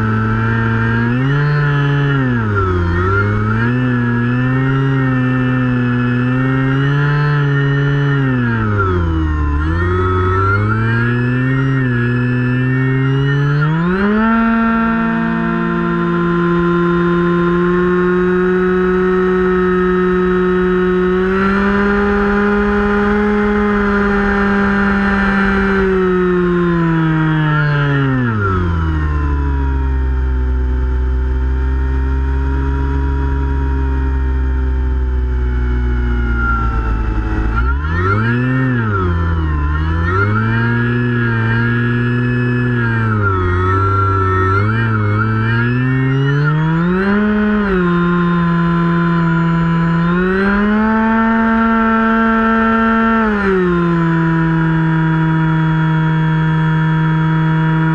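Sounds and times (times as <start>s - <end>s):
electric propeller whining: 0.0s - 57.9s.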